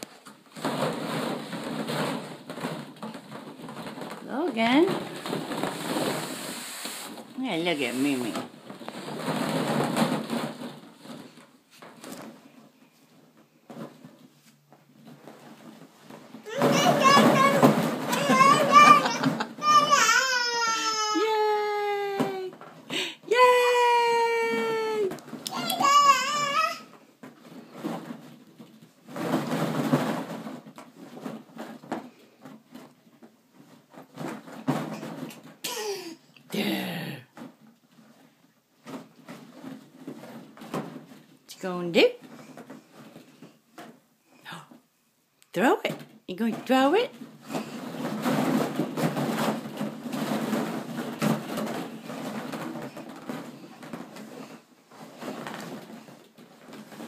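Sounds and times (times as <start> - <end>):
plastic balls rustling and clacking: 0.0 - 57.0.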